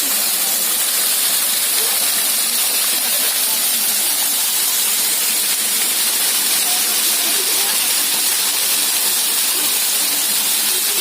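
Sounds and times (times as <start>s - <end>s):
small waterfall rushing: 0.0s - 11.0s.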